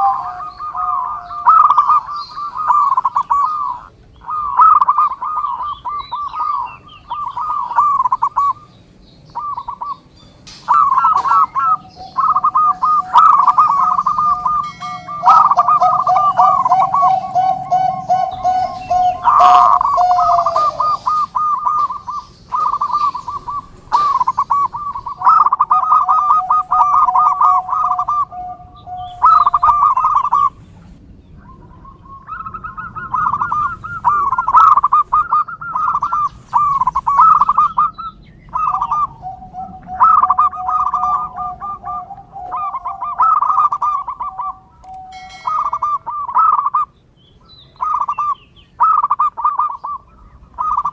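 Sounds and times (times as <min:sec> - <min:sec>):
doves cooing: 0:00.0 - 0:47.0, 0:47.7 - 0:50.9.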